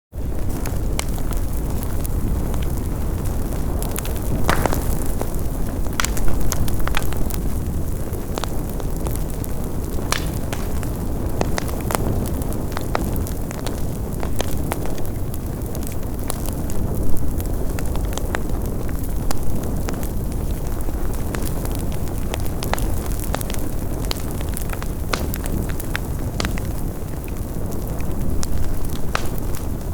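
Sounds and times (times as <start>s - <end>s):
bonfire flames roaring: 0.2s - 29.9s
logs crackling and popping: 0.2s - 29.9s.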